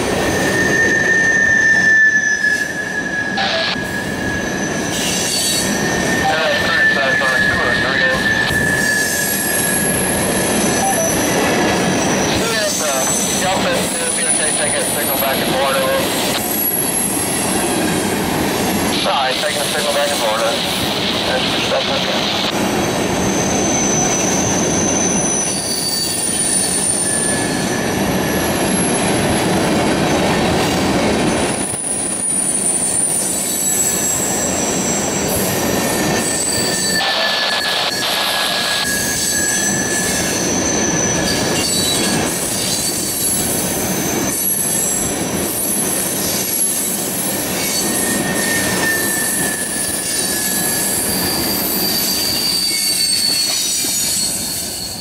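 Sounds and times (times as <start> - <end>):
train wheels rumbling on rail: 0.0 - 55.0
high-pitched wheel squeals: 0.2 - 17.2, 23.2 - 29.1, 31.6 - 55.0.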